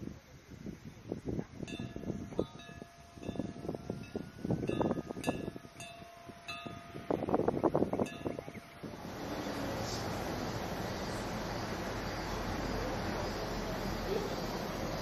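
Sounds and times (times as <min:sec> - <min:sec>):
wind gusting on microphone: 0:00.0 - 0:15.0.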